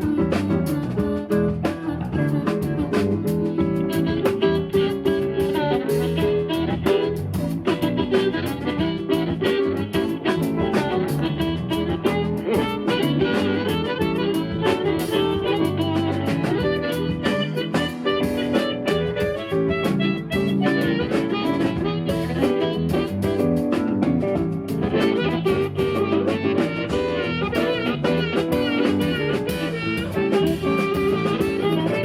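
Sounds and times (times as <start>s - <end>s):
bass: 0.0s - 32.0s
drums: 0.0s - 32.0s
guitar: 0.0s - 32.0s.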